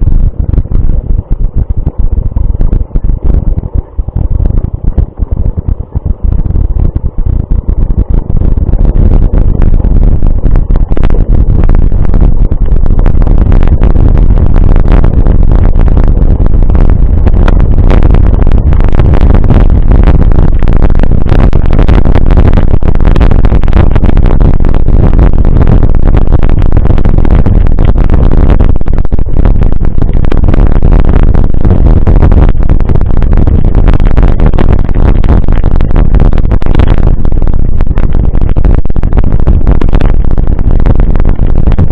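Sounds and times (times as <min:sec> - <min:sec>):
wind on microphone: 0:00.0 - 0:41.9.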